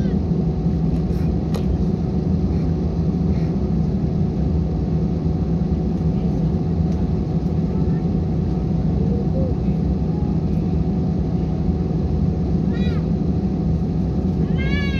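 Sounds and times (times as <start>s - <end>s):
jet engines rumbling in cabin: 0.0s - 14.9s.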